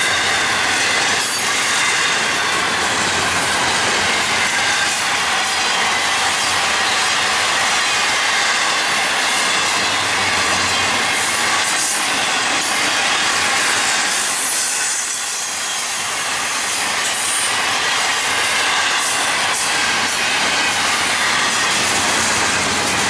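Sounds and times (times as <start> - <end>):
high wheel squeal: 0.0 - 21.9
freight train wheels on rail: 0.0 - 23.0.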